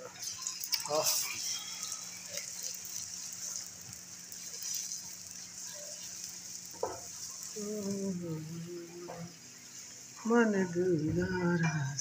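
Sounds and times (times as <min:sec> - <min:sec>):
eggs sizzling in oil: 0:00.0 - 0:12.0.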